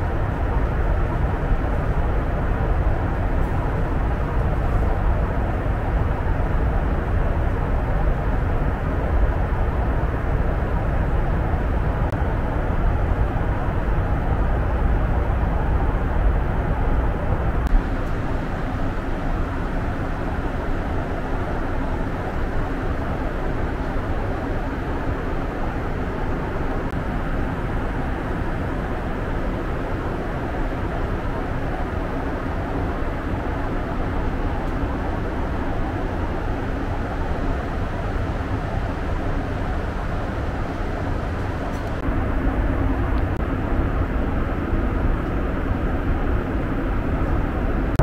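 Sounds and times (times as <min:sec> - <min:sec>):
jet engine drone: 0:00.0 - 0:48.0.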